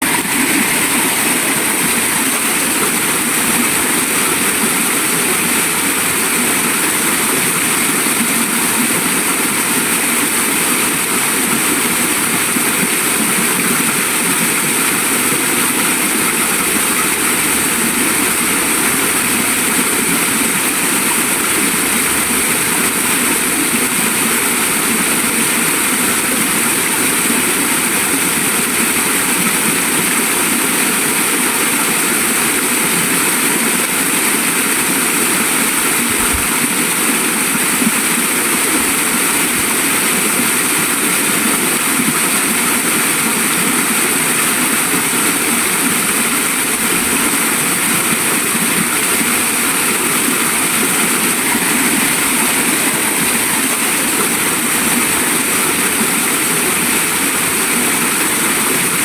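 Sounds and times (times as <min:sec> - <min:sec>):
waterfall pouring: 0:00.0 - 0:59.0.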